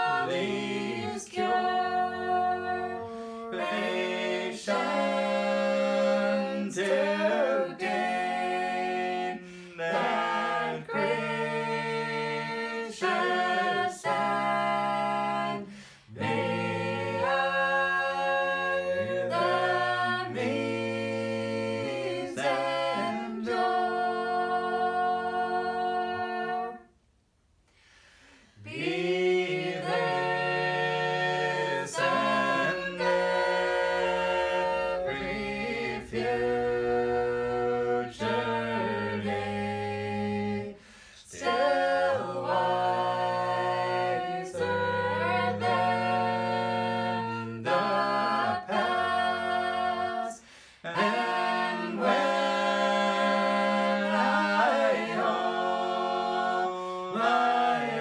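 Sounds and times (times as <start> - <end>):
people singing hymn a cappella: 0.0 - 27.0, 27.7 - 58.0.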